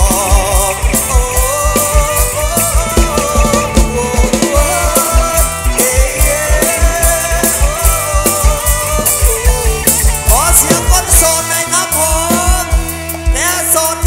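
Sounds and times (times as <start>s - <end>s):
fast kick-drum beat: 0.0s - 13.6s
band melody: 0.0s - 14.0s.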